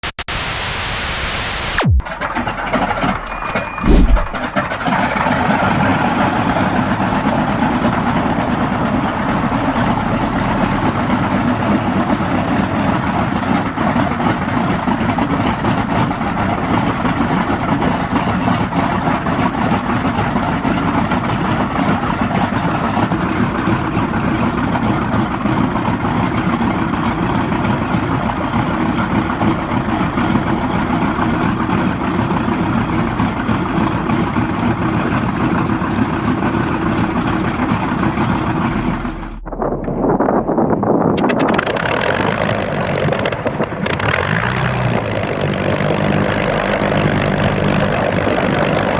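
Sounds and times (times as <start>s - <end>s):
aircraft engine running: 3.9s - 48.9s.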